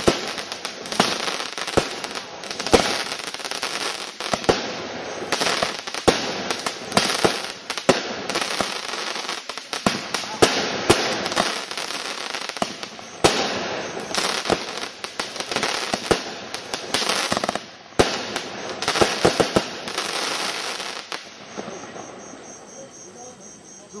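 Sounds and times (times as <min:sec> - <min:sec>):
firework sharp bangs: 0:00.0 - 0:22.1
firework crackle: 0:00.0 - 0:22.2.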